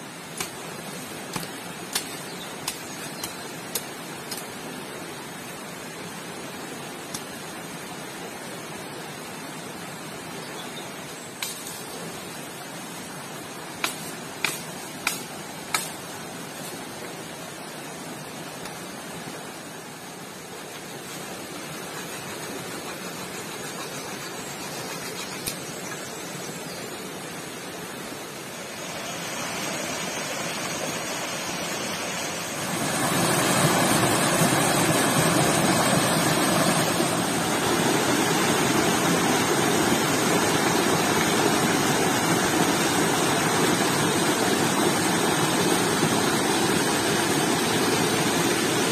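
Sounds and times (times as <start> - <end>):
creek water rushing: 0.0 - 48.9.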